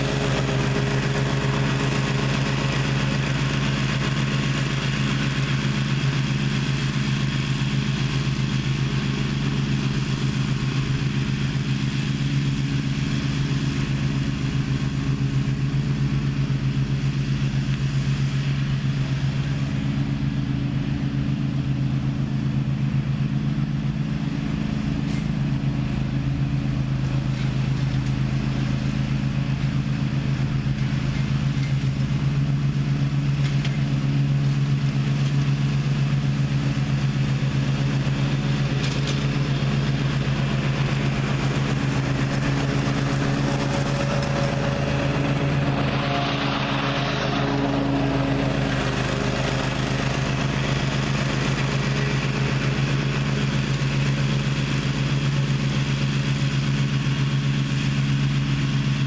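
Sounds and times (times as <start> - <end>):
riding mower engine drone: 0.0 - 59.0.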